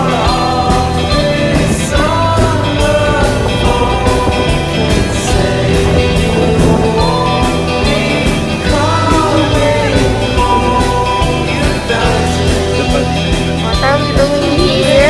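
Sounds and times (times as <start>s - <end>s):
song with guitar and singing: 0.0s - 15.0s.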